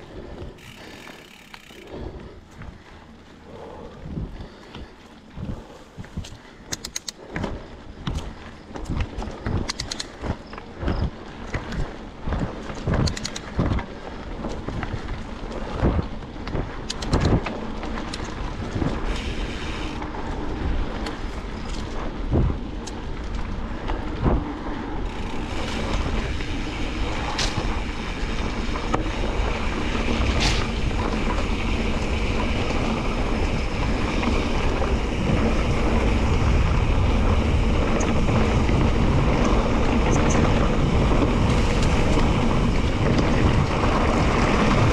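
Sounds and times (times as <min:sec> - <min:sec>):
bike knocking and rattling: 0:00.0 - 0:44.9
bike tyres on dirt track: 0:00.0 - 0:44.9
wind buffeting microphone: 0:00.0 - 0:44.9.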